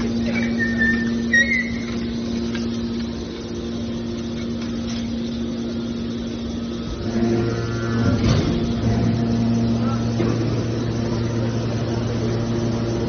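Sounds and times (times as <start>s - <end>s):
baler mechanical hum: 0.0s - 13.0s.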